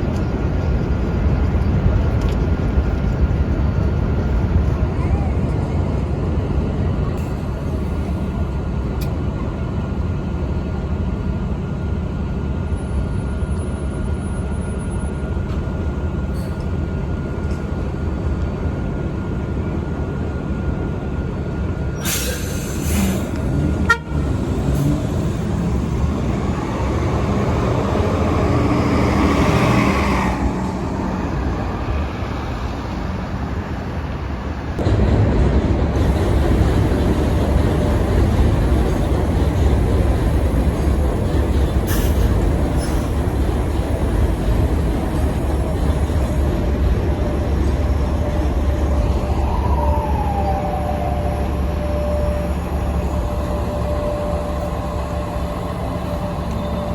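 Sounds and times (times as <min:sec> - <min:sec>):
bus engines rumbling: 0:00.0 - 0:56.9.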